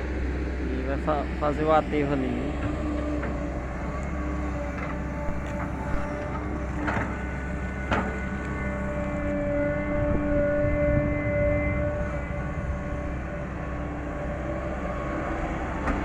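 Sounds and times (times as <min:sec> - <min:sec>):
excavator diesel engine: 0:00.0 - 0:16.0
hydraulic whine: 0:00.0 - 0:16.0.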